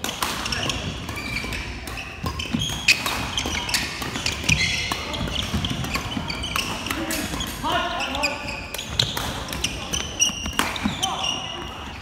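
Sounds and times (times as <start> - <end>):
racquet hitting shuttlecock: 0.0 - 7.7, 8.6 - 10.9
shoes squeaking on floor: 0.0 - 12.0.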